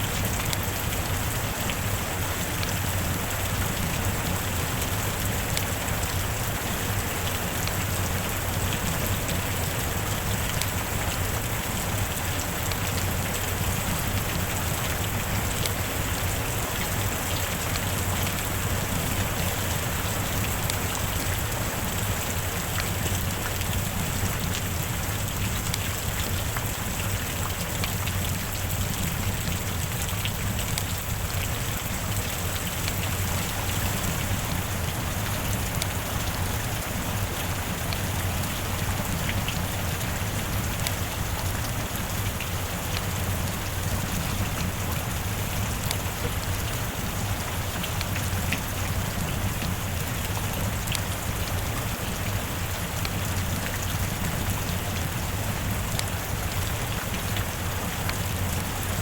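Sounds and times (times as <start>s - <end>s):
heavy rain hissing: 0.0s - 59.0s
raindrops ticking: 0.0s - 59.0s.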